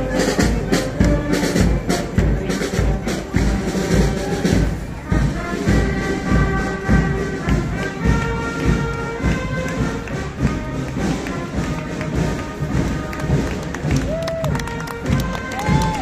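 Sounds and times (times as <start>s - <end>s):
marching band music: 0.0s - 16.0s.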